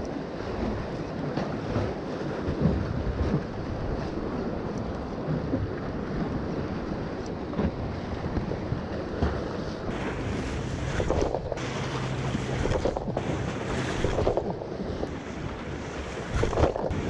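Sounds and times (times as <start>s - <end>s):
waves washing against rocks: 0.2s - 17.0s
wind buffeting microphone: 0.6s - 17.0s.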